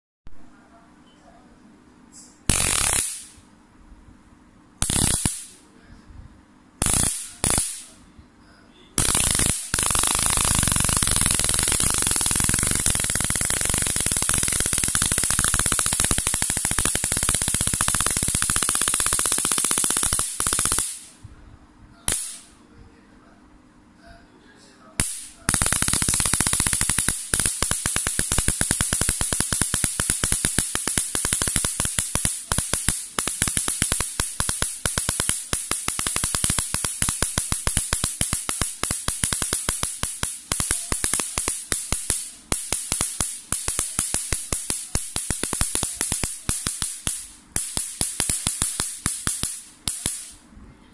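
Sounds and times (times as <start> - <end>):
electric arc buzzing: 2.4 - 3.4, 4.8 - 5.6, 6.8 - 7.9, 8.9 - 21.2, 22.1 - 22.5, 25.0 - 50.4
electric arc crackling: 2.4 - 3.4, 4.8 - 5.6, 6.8 - 8.0, 9.0 - 21.2, 22.1 - 22.5, 25.0 - 50.4.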